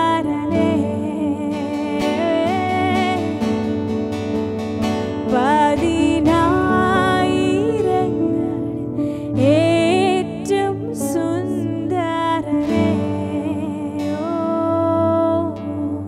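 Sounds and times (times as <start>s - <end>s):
woman singing worship song: 0.0s - 3.8s, 5.3s - 16.0s
acoustic guitar: 0.0s - 16.0s.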